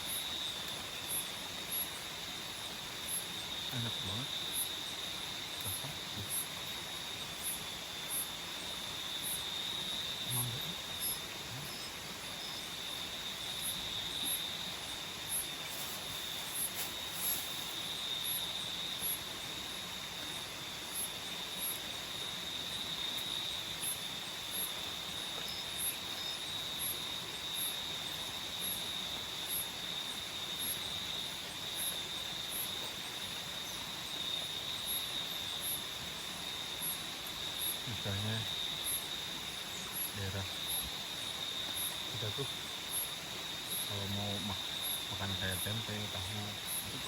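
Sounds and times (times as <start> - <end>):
insect chirping pulses: 0.0 - 47.0
insect high-pitched drone: 0.0 - 47.0
steady background hiss: 0.0 - 47.0.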